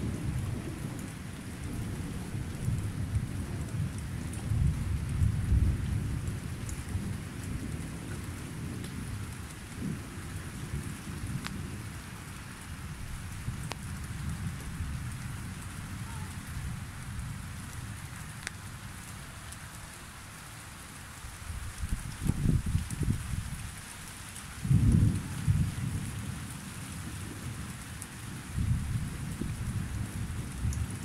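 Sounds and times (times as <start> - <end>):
low rolling thunder: 0.0 - 18.5, 21.5 - 23.5, 24.6 - 31.0
steady rain: 0.0 - 31.0.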